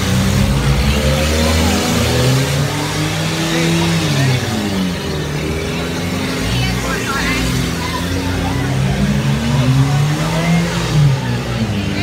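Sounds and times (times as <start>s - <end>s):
car engines revving hard: 0.0s - 12.0s
crowd noise: 0.0s - 12.0s.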